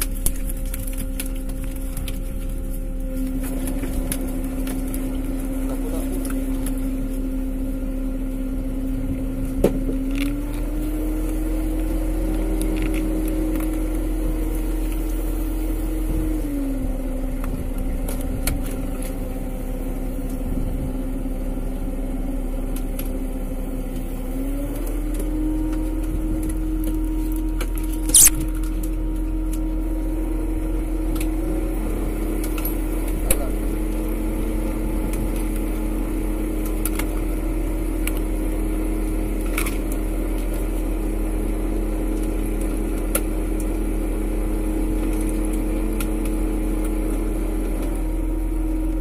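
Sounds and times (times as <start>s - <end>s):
boat machinery droning: 0.0s - 49.0s.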